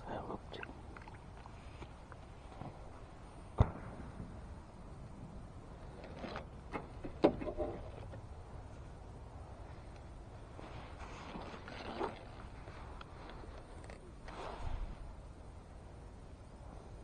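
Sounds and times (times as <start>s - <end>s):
low wind on microphone: 0.0s - 17.0s.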